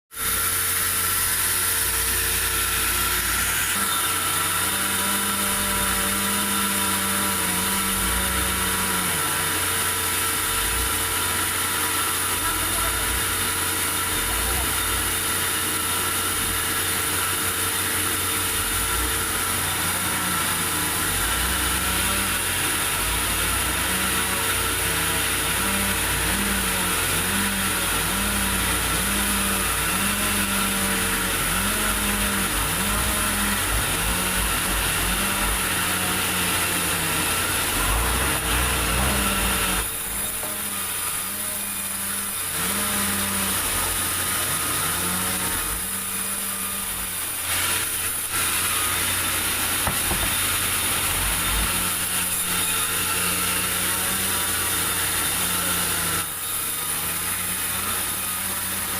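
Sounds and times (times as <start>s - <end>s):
sawmill saw cutting wood: 0.1s - 58.9s
machine drone: 0.2s - 55.4s.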